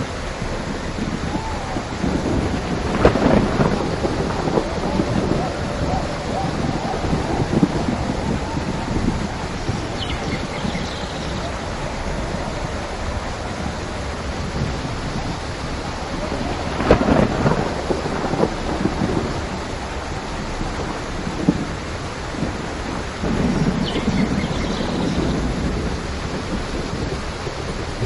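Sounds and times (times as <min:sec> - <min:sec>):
steady rain falling: 0:00.0 - 0:28.0
thunder rumbling: 0:00.0 - 0:28.0.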